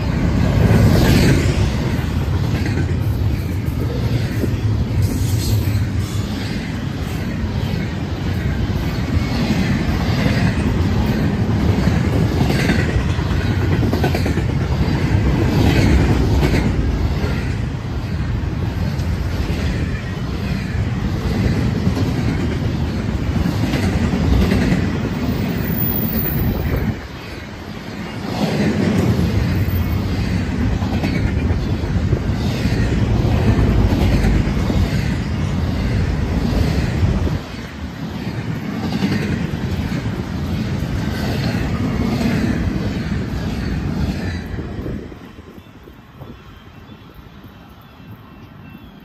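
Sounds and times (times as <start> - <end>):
freight train rumbling past: 0.0 - 48.8.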